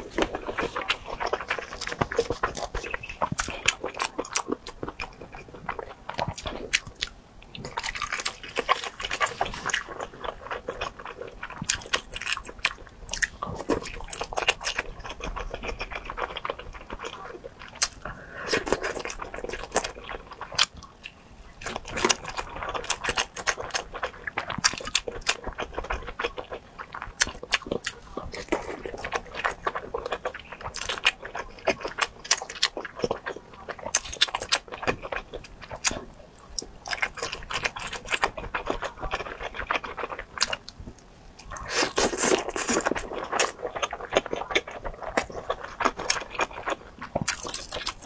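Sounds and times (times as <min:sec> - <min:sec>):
close chewing with mouth clicks: 0:00.0 - 0:48.0.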